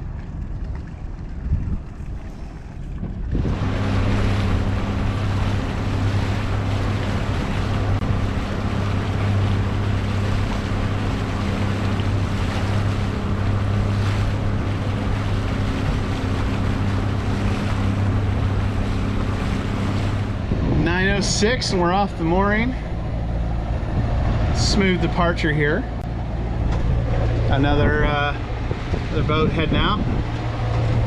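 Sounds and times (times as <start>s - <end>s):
boat engine running: 0.0s - 31.0s
wind noise on microphone: 0.0s - 31.0s.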